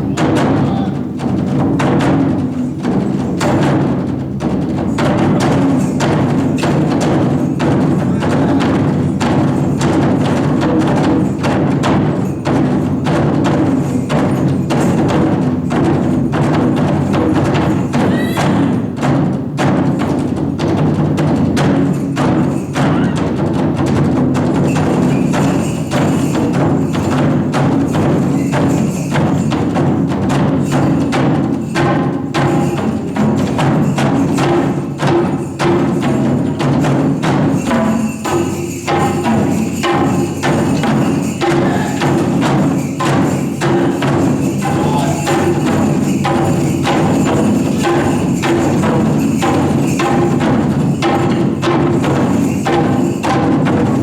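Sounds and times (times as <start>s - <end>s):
taiko drums playing: 0.0s - 54.0s.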